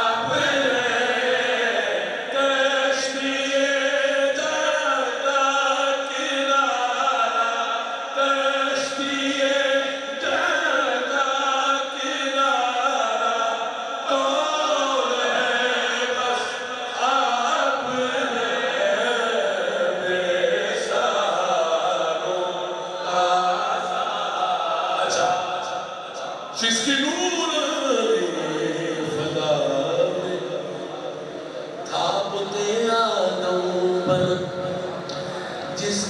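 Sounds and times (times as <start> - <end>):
man chanting into microphone: 0.0 - 36.0.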